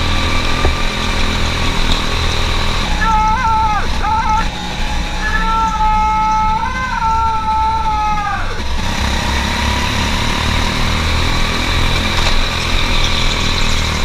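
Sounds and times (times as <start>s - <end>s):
go-kart engines droning: 0.0s - 14.0s.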